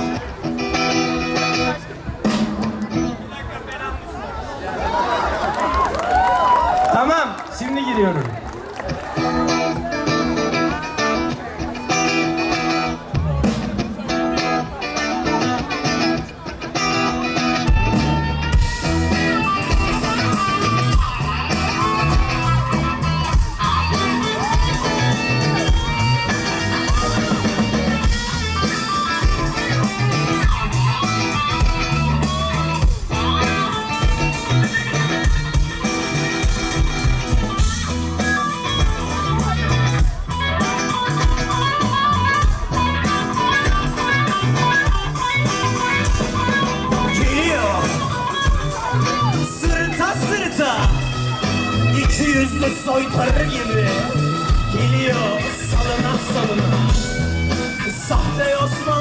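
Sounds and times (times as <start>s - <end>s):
electric guitar: 0.0s - 3.3s, 8.3s - 59.0s
bass guitar: 0.0s - 3.5s, 8.4s - 59.0s
drums: 0.0s - 59.0s.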